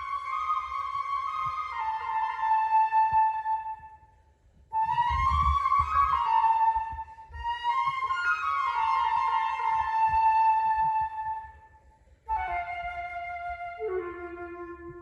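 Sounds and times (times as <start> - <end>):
solo flute melody: 0.0 - 15.0.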